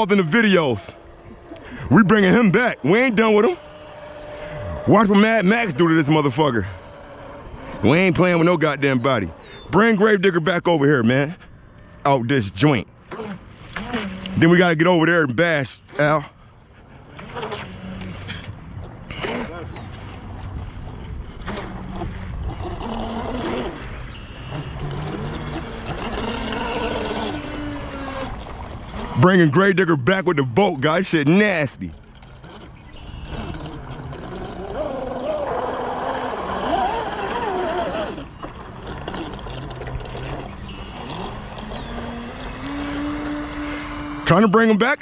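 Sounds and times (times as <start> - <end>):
model boat motor whining: 0.0 - 45.0.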